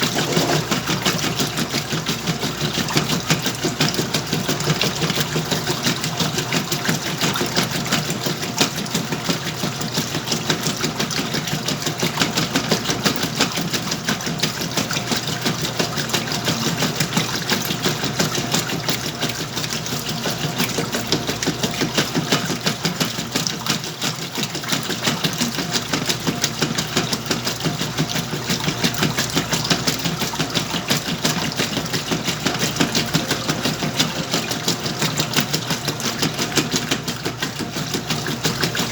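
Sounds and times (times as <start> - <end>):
washing machine clattering: 0.0 - 38.9.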